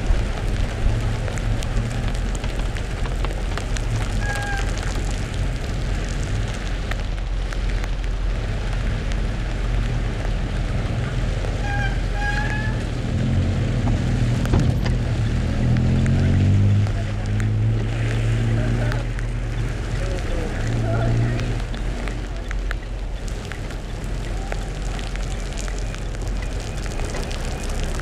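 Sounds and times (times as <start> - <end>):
car engine hum: 0.0 - 28.0
rain: 0.0 - 28.0
tyres on wet road: 0.0 - 28.0.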